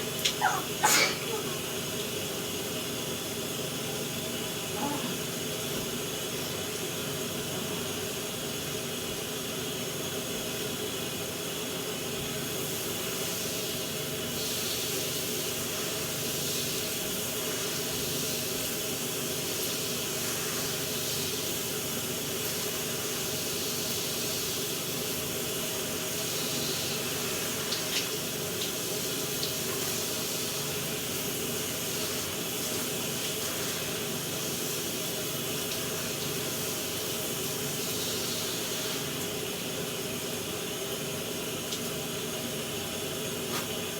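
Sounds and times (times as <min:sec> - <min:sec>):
shower running: 0:00.0 - 0:43.9.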